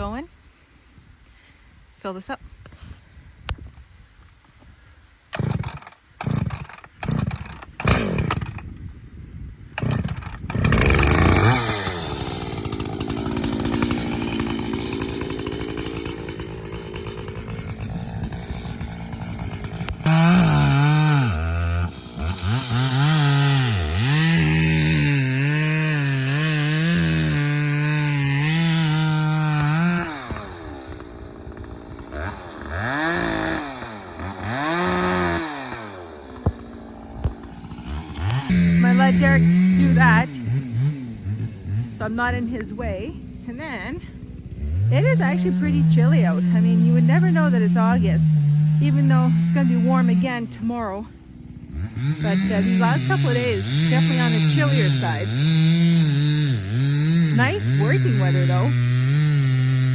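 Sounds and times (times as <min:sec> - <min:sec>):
chainsaw cutting wood: 0:05.3 - 0:08.8, 0:09.7 - 0:59.9
chainsaw starting: 0:05.3 - 0:08.8, 0:09.7 - 0:59.9.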